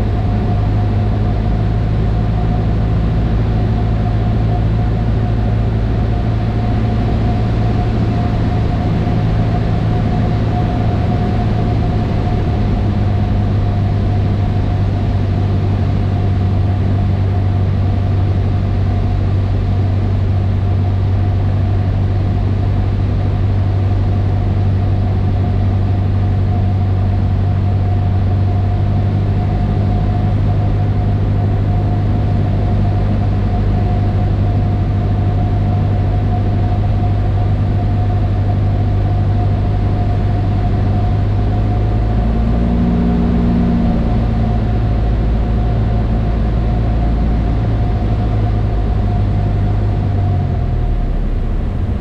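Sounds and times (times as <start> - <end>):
propeller plane engine droning: 0.0 - 52.0
thin steady whine: 0.0 - 52.0.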